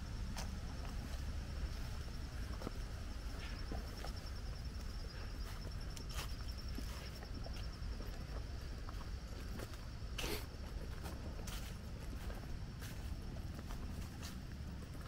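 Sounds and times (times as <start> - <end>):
insect trill: 0.0 - 15.0
footsteps crunching on leaves: 0.2 - 15.0.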